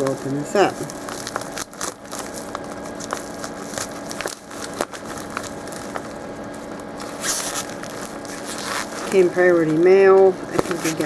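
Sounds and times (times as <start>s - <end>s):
packaging rustling and crinkling: 0.0s - 11.0s
small clicks and crackles: 0.2s - 11.0s.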